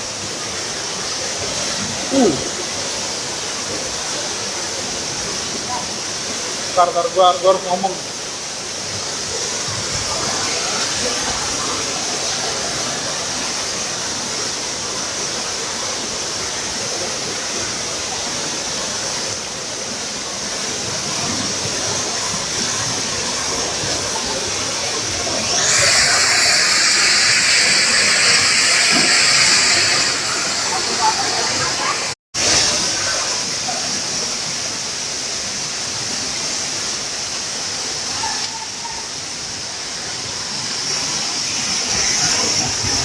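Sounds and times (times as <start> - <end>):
waterfall rushing water: 0.0 - 43.0.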